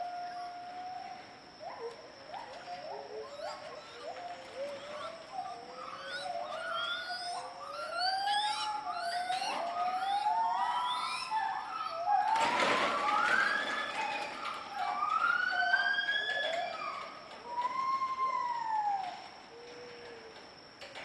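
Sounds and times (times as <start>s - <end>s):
gibbons whooping: 0.0s - 21.0s.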